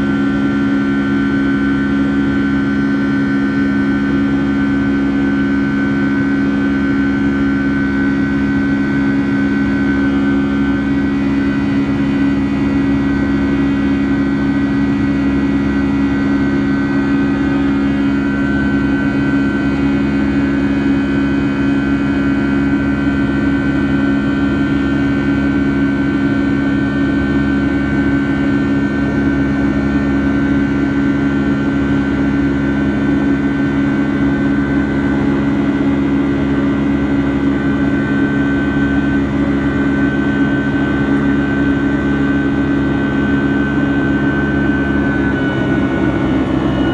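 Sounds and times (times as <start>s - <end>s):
jet engines droning in cabin: 0.0s - 46.9s.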